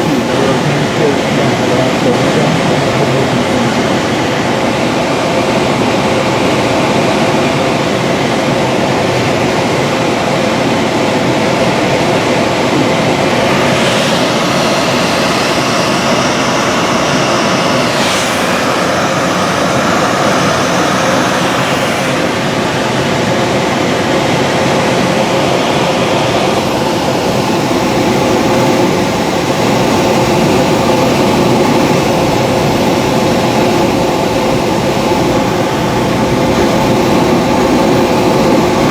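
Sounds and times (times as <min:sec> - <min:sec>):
rushing air in cockpit: 0:00.0 - 0:08.7, 0:11.4 - 0:38.9.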